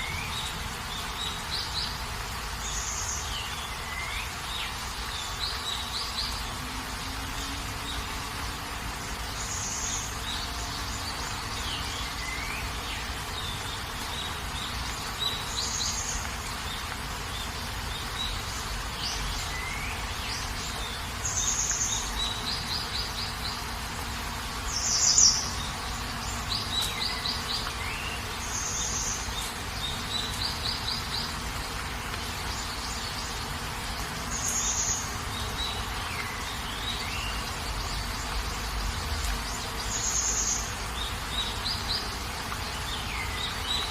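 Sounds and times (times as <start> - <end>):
birds chirping and trilling: 0.0 - 43.9
steady rain hiss: 0.0 - 43.9.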